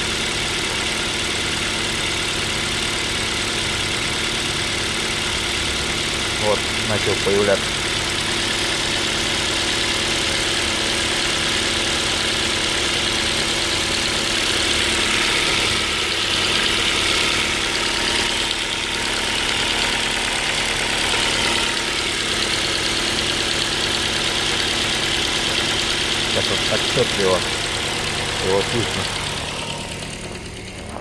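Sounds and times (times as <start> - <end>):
car engine idling: 0.0 - 31.0
engine knock: 0.0 - 31.0.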